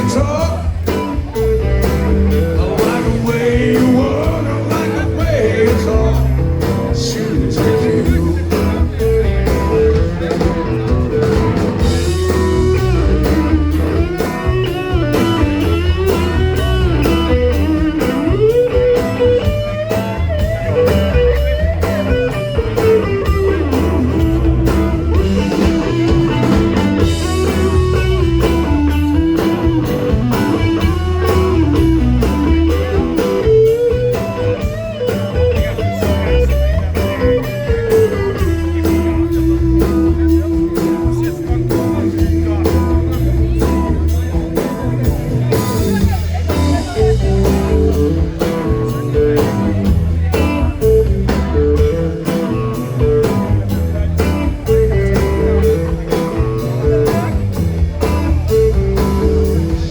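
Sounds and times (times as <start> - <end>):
bass: 0.0 - 59.9
blues-rock guitar lead: 0.0 - 59.9
drum beat: 0.0 - 59.9.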